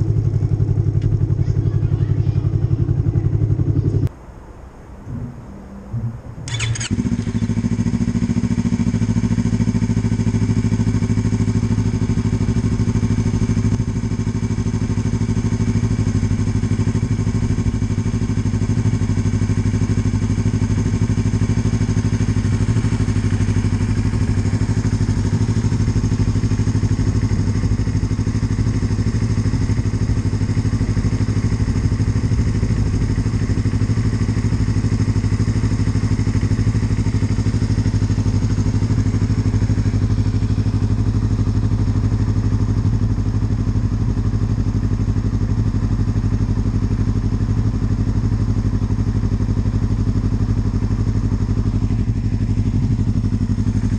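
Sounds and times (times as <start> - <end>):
motorcycle engine idling: 0.0 - 4.2, 4.9 - 53.9.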